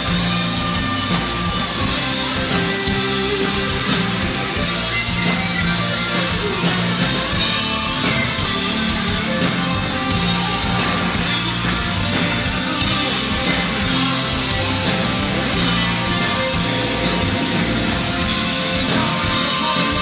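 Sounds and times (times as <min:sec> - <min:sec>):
distorted electric guitars: 0:00.0 - 0:20.0
live rock band playing: 0:00.0 - 0:20.0
low bass line: 0:00.0 - 0:20.0.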